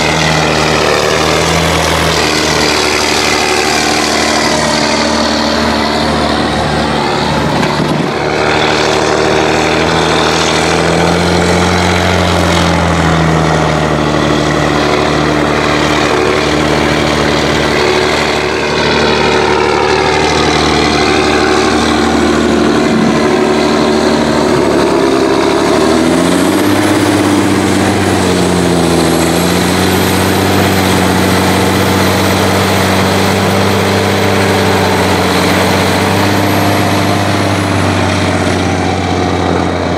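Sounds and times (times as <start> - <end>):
tractor diesel engine running hard: 0.0 - 39.9.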